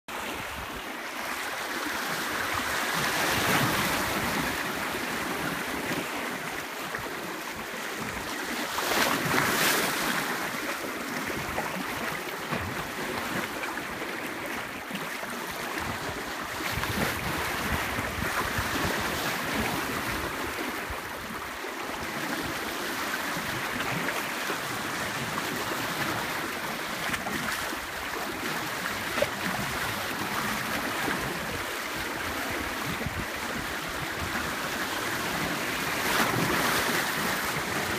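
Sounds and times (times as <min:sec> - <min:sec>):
surf washing onto beach: 0:00.1 - 0:37.9
wind on microphone: 0:00.1 - 0:37.9.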